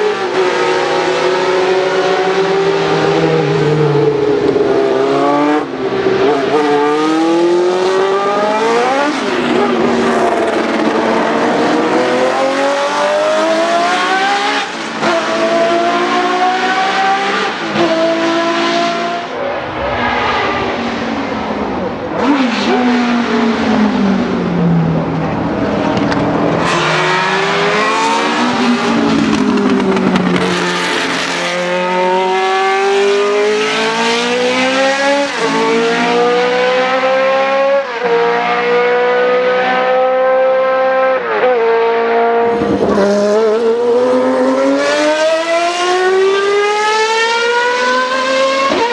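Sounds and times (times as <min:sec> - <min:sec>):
racing car engines at high revs: 0:00.0 - 0:48.9.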